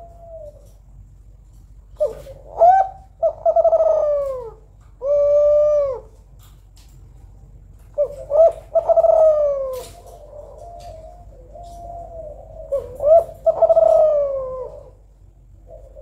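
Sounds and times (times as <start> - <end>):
dove cooing: 0.0 - 1.1, 1.9 - 6.4, 7.9 - 16.0.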